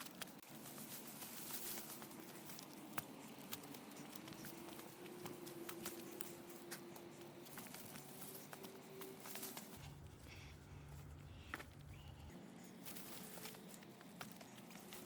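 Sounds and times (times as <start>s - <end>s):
faint steady hum: 0.0s - 15.0s
footsteps on a trail: 0.0s - 15.0s.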